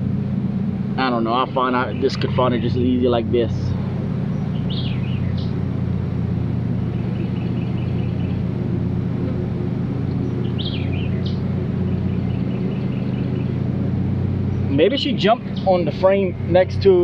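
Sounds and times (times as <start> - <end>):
songbird singing: 0.0 - 17.0
steady low hum: 0.0 - 17.0.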